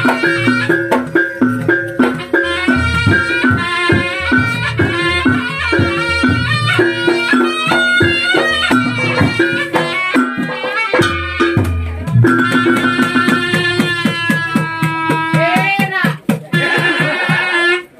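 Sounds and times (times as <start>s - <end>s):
drum strokes: 0.0s - 17.9s.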